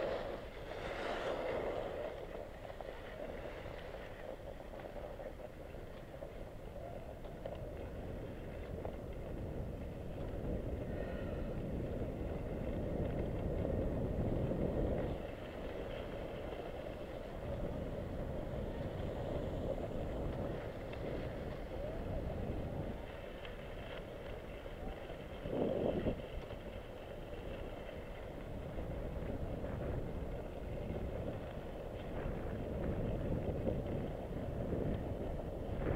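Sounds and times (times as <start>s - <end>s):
skis scraping over snow: 0.0s - 35.9s
wind buffeting microphone: 0.0s - 35.9s.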